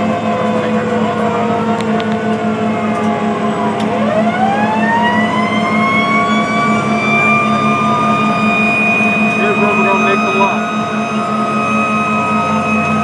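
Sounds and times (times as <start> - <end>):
fire engine siren wailing: 0.0 - 13.0
truck engine droning: 0.0 - 13.0.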